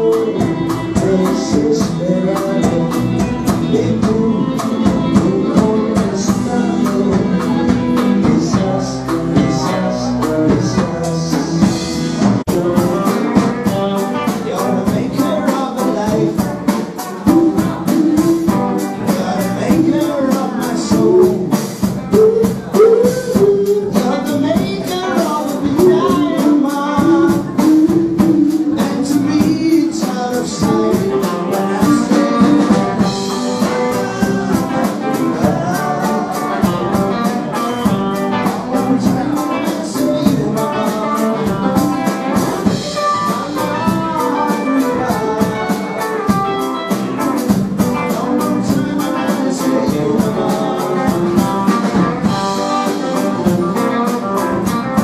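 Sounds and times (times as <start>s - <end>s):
drum kit steady beat: 0.0s - 55.0s
electric bass: 0.0s - 55.0s
electric guitars: 0.0s - 55.0s
male vocals: 0.0s - 55.0s.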